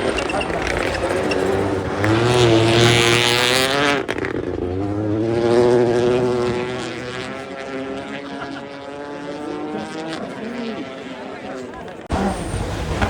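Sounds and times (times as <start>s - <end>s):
rally car engine at full throttle: 0.0s - 13.0s.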